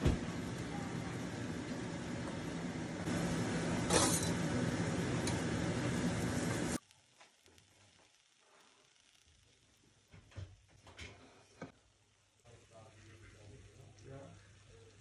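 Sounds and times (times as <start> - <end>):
gas hob hissing hum: 0.0 - 15.0.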